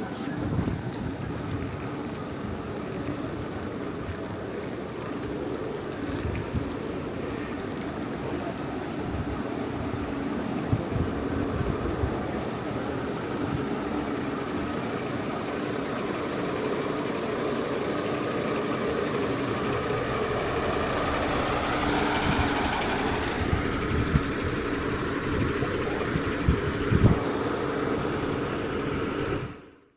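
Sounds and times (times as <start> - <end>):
diesel engine idling: 1.3 - 29.9.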